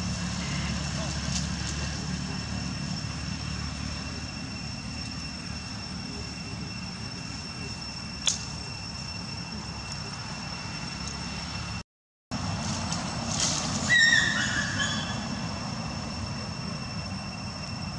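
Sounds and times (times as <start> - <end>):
steady high-pitched whine: 0.0 - 17.9.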